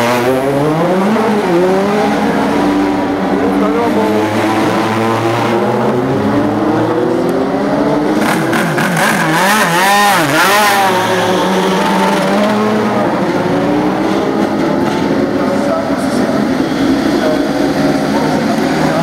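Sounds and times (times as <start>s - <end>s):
race car engines running: 0.0s - 19.0s.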